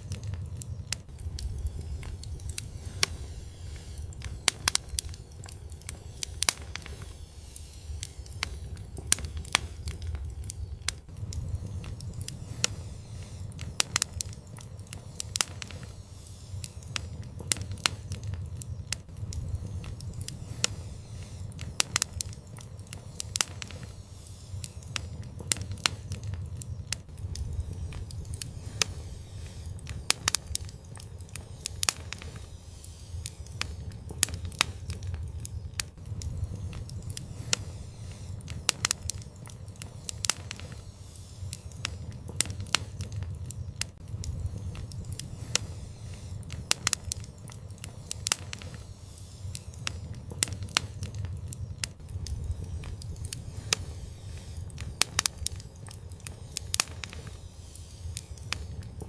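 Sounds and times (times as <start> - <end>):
low rumble of flames: 0.0 - 59.0
wood fire popping and snapping: 0.0 - 59.0.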